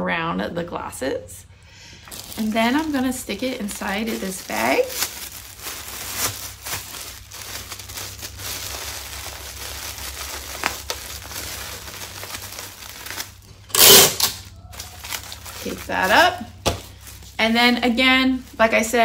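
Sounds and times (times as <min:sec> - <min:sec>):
plastic bag crinkling: 0:01.9 - 0:19.0.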